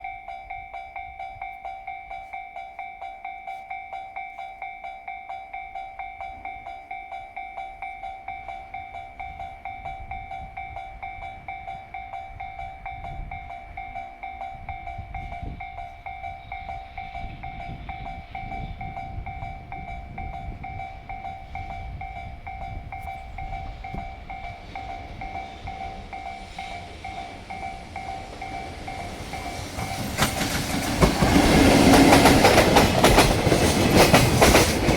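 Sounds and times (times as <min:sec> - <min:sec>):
level crossing bell ringing: 0:00.0 - 0:30.5
freight train rumble: 0:00.0 - 0:34.9.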